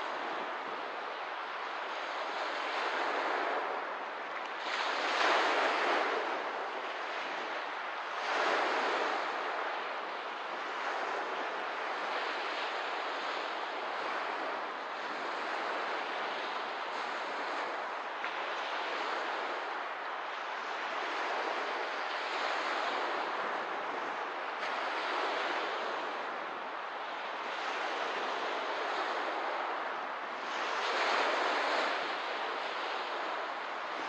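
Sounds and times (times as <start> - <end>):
lake waves washing ashore: 0.0 - 34.0.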